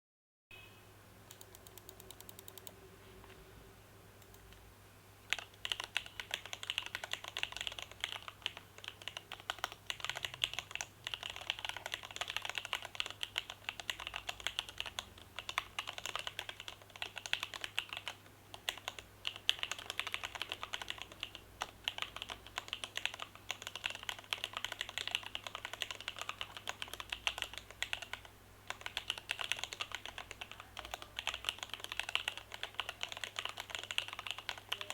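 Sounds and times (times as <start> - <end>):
typing on mechanical keyboard: 1.3 - 2.7, 5.3 - 34.9.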